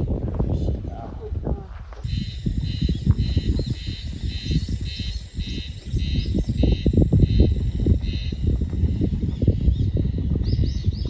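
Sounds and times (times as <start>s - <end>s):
high rhythmic chirping call: 2.0s - 11.0s.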